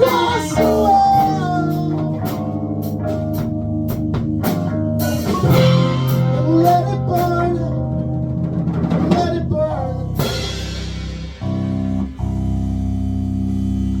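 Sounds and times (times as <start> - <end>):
drum and cymbal hits: 0.0 - 7.4, 8.0 - 12.6
guitar: 0.0 - 14.0
rock band playing: 0.0 - 14.0.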